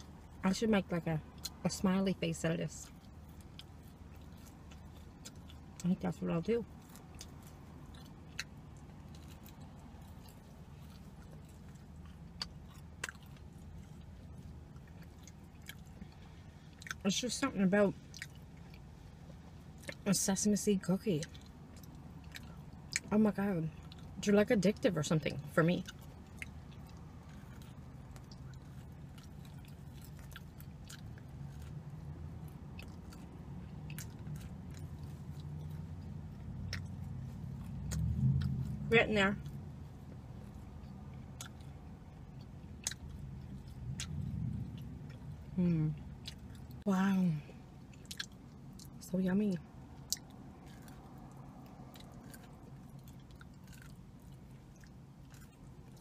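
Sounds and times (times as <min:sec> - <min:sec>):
chewing a cookie: 0:00.0 - 0:56.0
low steady hum: 0:00.0 - 0:56.0.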